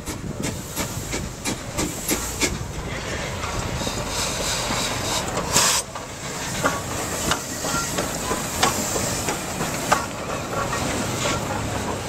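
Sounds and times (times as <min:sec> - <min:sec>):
steam blast: 0:00.0 - 0:12.0
steam hissing: 0:00.0 - 0:12.0
steam locomotive moving slowly: 0:00.0 - 0:12.0.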